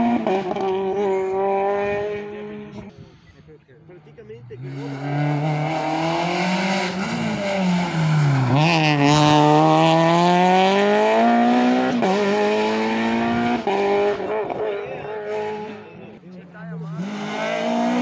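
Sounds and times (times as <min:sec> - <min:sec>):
rally car engine revving: 0:00.0 - 0:03.0, 0:03.9 - 0:18.0.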